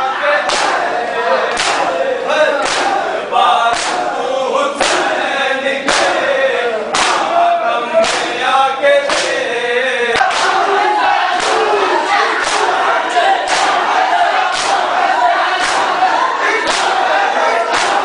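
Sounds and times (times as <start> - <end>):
men chanting together: 0.0 - 18.0
palms slapping chests: 0.4 - 4.2, 4.8 - 5.2, 5.8 - 7.4, 8.0 - 8.4, 9.0 - 9.4, 10.1 - 18.0.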